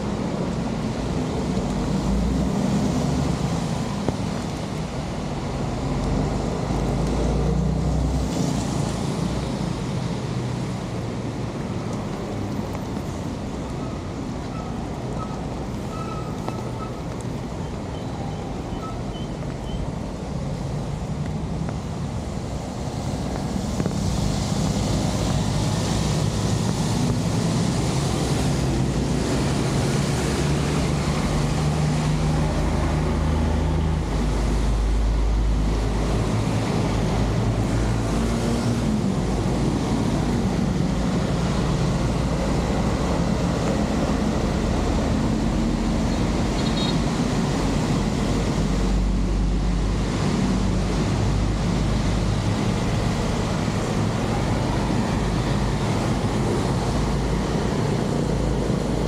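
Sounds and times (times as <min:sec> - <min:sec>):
heavy rain: 0:00.0 - 0:59.0
stormwater rushing into culvert: 0:00.0 - 0:59.0.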